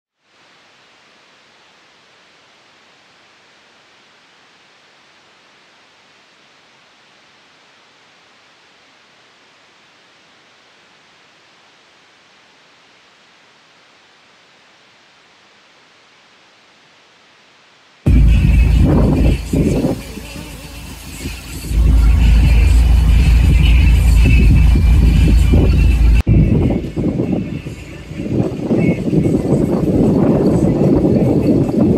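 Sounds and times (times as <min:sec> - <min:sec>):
faint steady hiss: 0:00.2 - 0:31.8.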